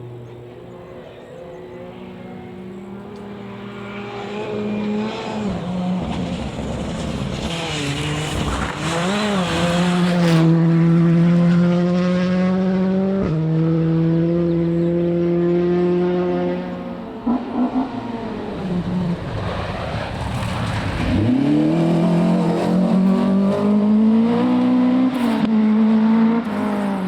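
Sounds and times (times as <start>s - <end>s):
rally car engine at high revs: 0.0s - 27.0s.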